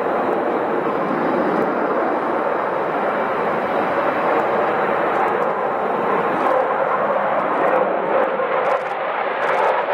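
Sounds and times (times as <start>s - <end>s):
jet engine running: 0.0s - 9.9s.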